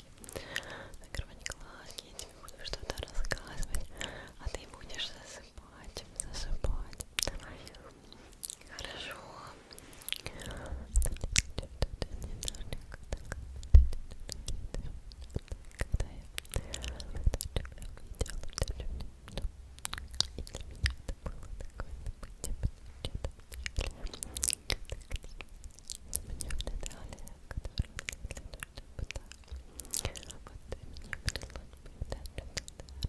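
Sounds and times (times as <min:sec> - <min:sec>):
faint whispering: 0:00.0 - 0:33.0
lips and tongue clicking: 0:00.2 - 0:05.4, 0:06.2 - 0:08.9, 0:10.0 - 0:33.0.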